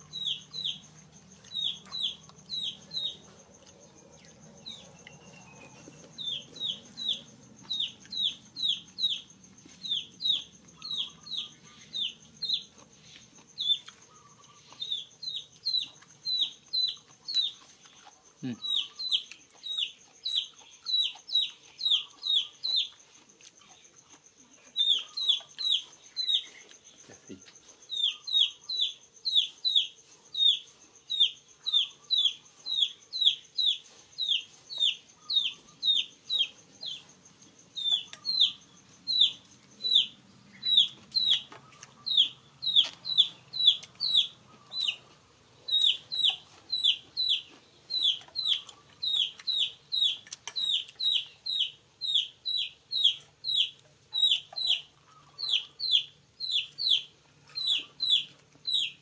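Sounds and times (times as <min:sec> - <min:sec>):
chick peeping: 0:00.0 - 0:03.3, 0:04.2 - 0:23.0, 0:24.8 - 0:26.8, 0:27.9 - 0:37.1, 0:37.8 - 0:59.0.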